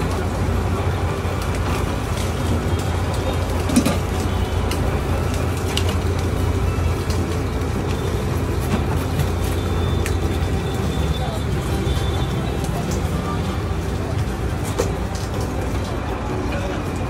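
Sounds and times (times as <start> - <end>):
juice crusher humming: 0.0 - 17.0.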